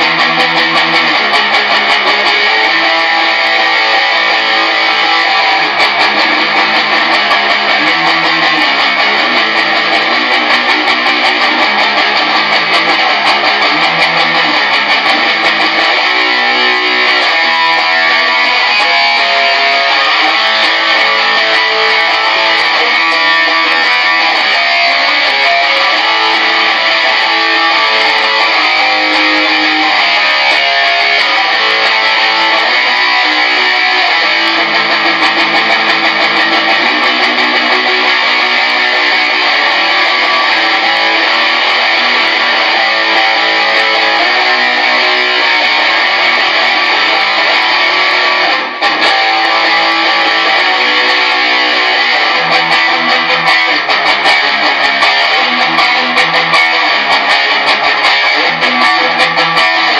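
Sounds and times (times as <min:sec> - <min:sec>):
electric guitar strumming rock chords: 0:00.0 - 0:59.9.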